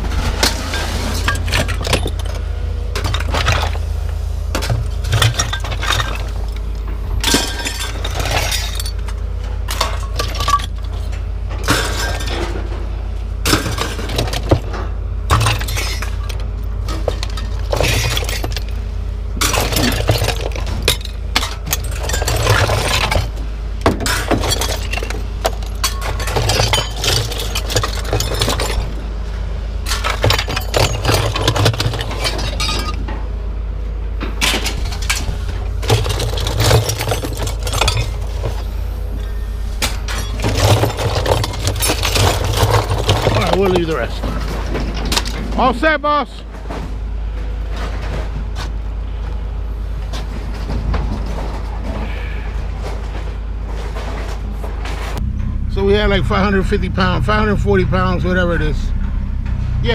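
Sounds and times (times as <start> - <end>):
scrap metal clanking onto pile: 0.0 - 3.8, 4.5 - 29.0, 29.8 - 33.3, 34.2 - 48.7, 50.1 - 55.2
steady low rumble: 0.0 - 45.8, 46.4 - 59.9.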